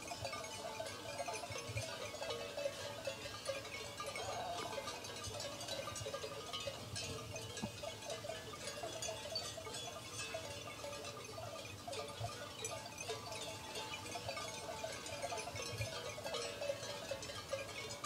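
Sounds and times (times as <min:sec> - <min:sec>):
sheep bells jangling: 0:00.0 - 0:18.0.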